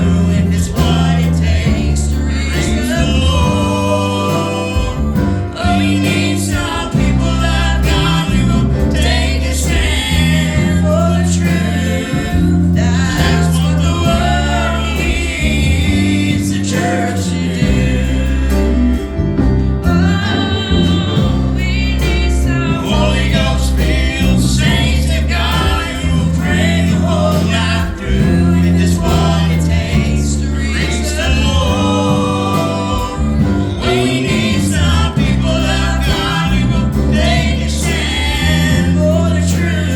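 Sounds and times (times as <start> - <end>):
gospel group singing in harmony: 0.0 - 39.9
instrumental backing with bass: 0.0 - 39.9.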